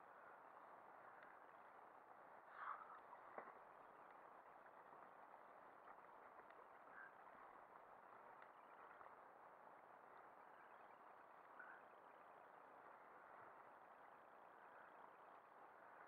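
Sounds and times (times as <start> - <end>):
faint steady hiss: 0.0 - 16.0
faint clicks: 0.2 - 16.0.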